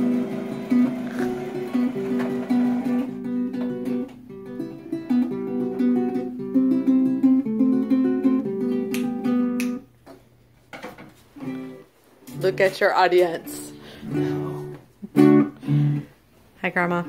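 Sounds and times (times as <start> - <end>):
fingerstyle classical guitar: 0.0 - 9.8, 11.4 - 16.1.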